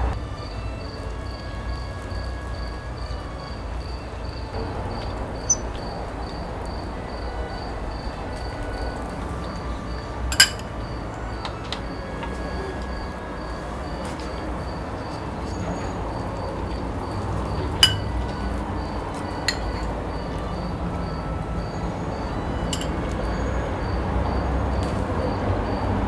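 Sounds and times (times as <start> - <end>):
cricket chirping: 0.0 - 26.0
low background rumble: 0.0 - 26.0.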